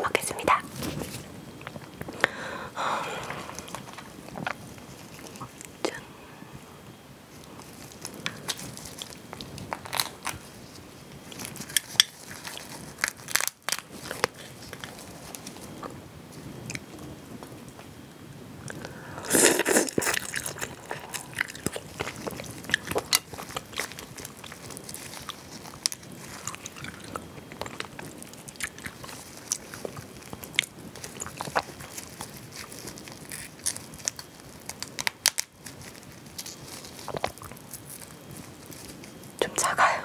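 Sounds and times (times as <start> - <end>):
sucking and chewing: 0.7 - 6.0, 7.3 - 16.0, 18.6 - 39.8
crayfish shells cracking: 0.8 - 5.9, 7.4 - 16.0, 18.7 - 39.4.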